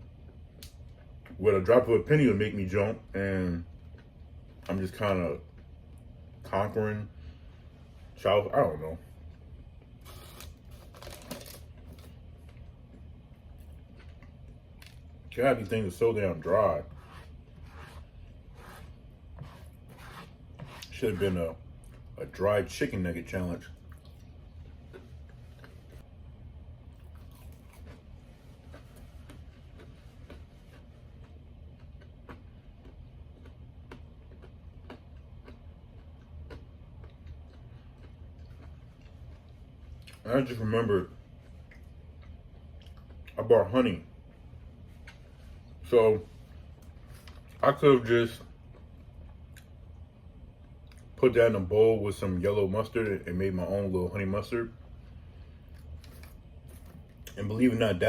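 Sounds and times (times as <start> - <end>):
low steady hum: 0.0 - 58.0
crackly chewing: 3.6 - 6.7, 9.0 - 51.2, 54.4 - 57.9.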